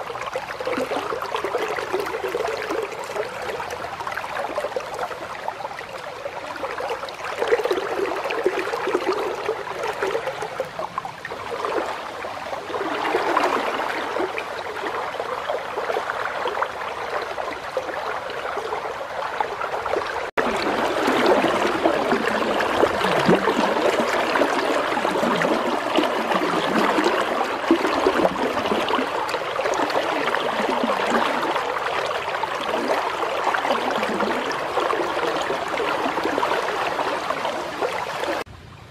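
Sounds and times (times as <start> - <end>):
river water rushing: 0.0 - 38.5.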